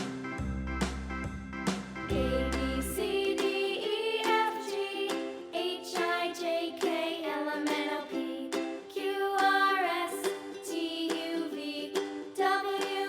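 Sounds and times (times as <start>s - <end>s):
children's song with ukulele: 0.0s - 13.0s
person singing melody: 2.1s - 13.0s.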